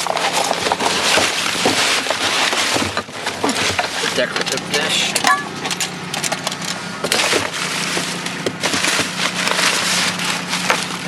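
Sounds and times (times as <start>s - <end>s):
items knocking and clattering: 0.0s - 11.0s
rustling: 0.0s - 11.0s.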